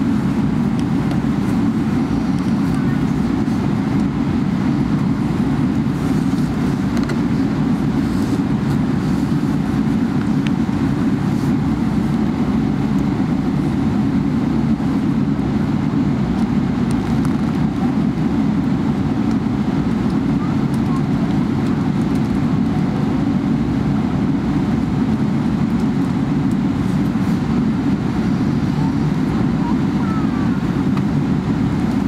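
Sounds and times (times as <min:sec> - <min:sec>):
airplane low rumble: 0:00.0 - 0:32.0.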